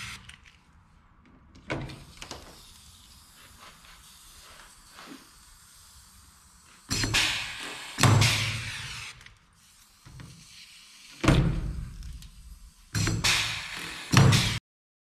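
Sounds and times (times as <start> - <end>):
air rivet gun hissing: 1.9 - 14.6.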